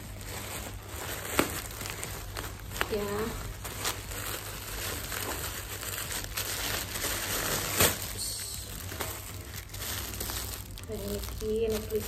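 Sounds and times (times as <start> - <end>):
plastic mailer bag rustling: 0.0 - 12.0
sharp plastic crackle: 0.0 - 12.0.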